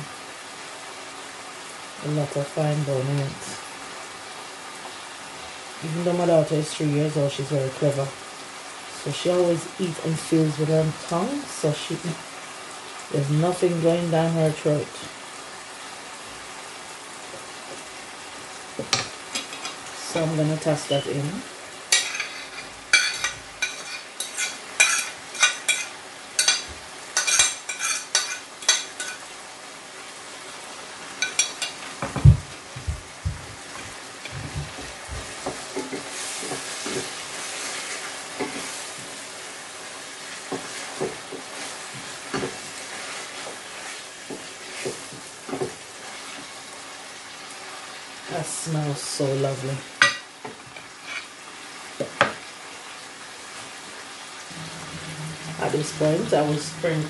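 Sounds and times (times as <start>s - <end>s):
food sizzling in oil: 0.0s - 57.0s.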